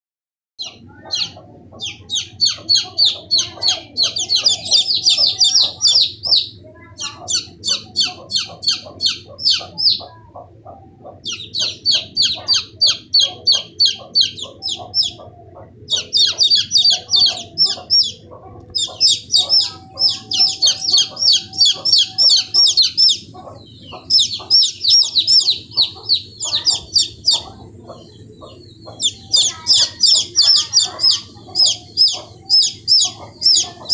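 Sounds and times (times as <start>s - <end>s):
chicks peeping: 0.6s - 33.9s.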